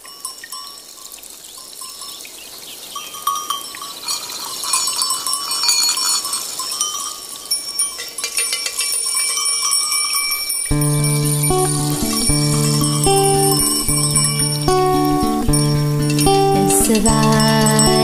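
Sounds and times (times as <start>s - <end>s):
livestock bells tinkling and clanking: 0.0s - 18.0s.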